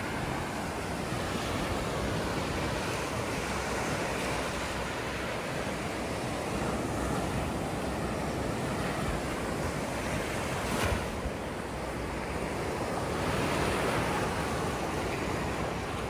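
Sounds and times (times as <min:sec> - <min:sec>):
ocean surf: 0:00.0 - 0:16.0
wind on microphone: 0:00.0 - 0:16.0.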